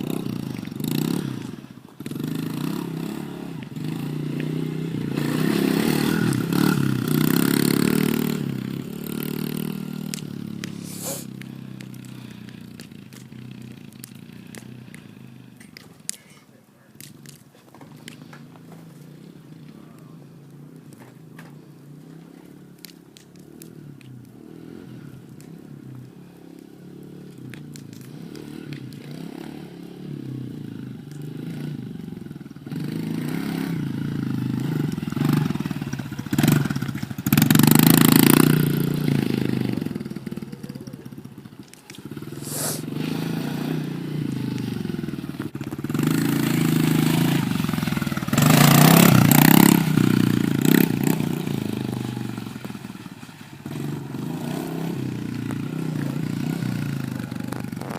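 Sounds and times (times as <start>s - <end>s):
dirt bike engine revving: 0.0s - 15.6s, 24.4s - 41.3s, 42.0s - 57.9s.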